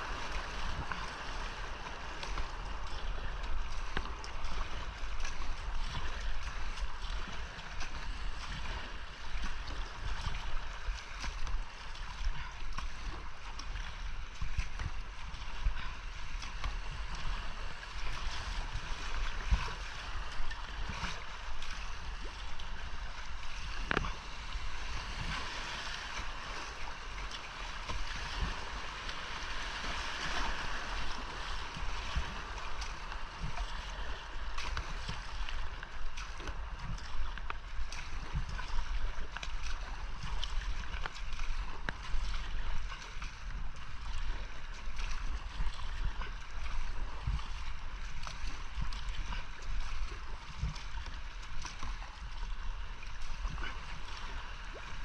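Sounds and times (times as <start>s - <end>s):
whitewater rushing and splashing: 0.0s - 55.0s.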